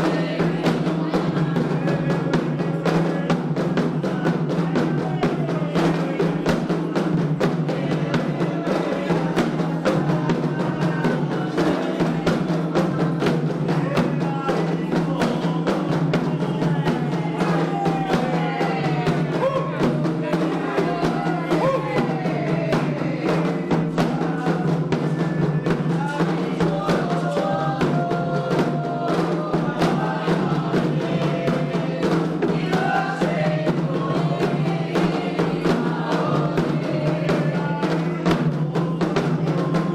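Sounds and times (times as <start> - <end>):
hand drums beating fast rhythm: 0.0 - 39.9
voices singing a chant: 0.0 - 39.9.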